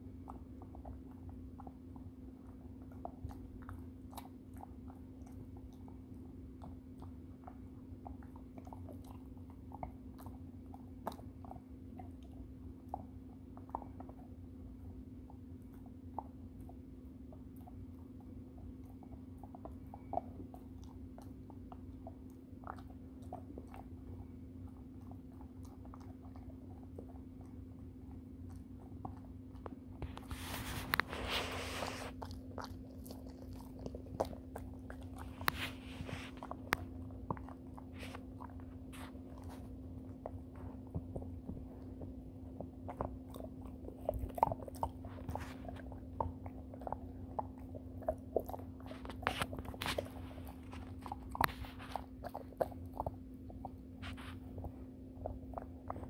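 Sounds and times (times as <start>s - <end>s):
dog chewing crunches: 0.1s - 56.0s.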